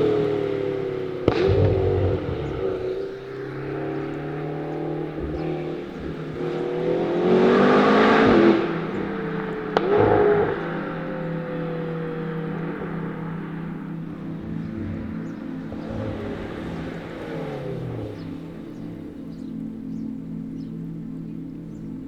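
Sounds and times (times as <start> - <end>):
car engine revving: 0.0 - 22.0
exhaust crack: 0.0 - 22.0.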